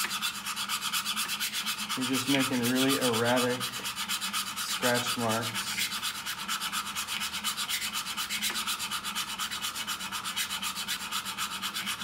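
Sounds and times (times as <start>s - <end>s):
saw blade scraping spinning lap: 0.0s - 12.0s.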